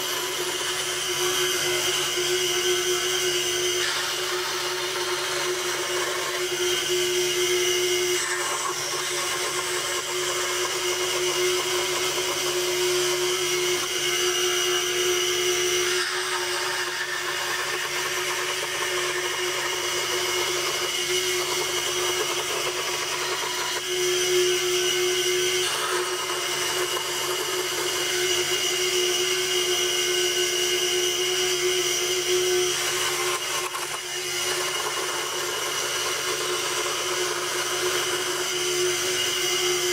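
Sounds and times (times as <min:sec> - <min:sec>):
scroll saw cutting wood: 0:00.0 - 0:39.9.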